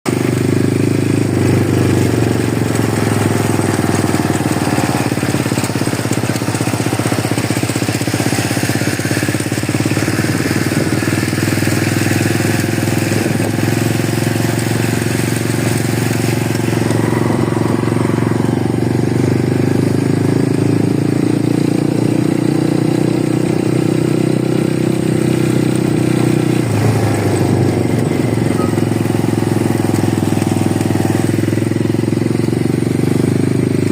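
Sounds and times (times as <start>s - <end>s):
mini motorcycle engine running: 0.1s - 33.9s.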